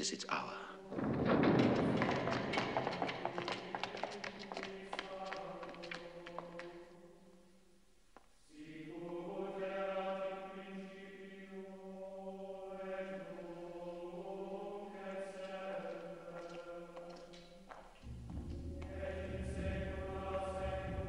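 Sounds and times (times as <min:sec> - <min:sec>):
male choir chanting: 0:02.5 - 0:07.3, 0:08.5 - 0:21.0.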